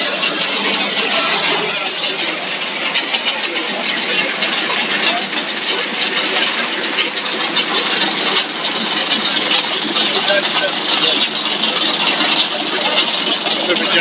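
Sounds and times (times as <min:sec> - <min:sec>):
extruder machine noise with hiss: 0:00.0 - 0:14.0.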